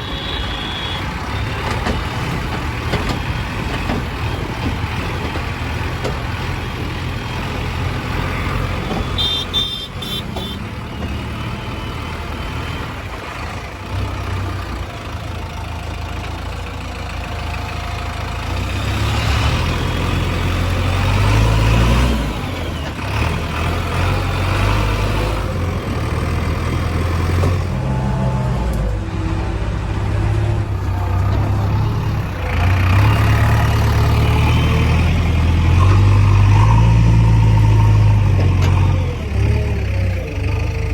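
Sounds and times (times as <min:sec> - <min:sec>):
diesel machinery engines running: 0:00.0 - 0:40.9.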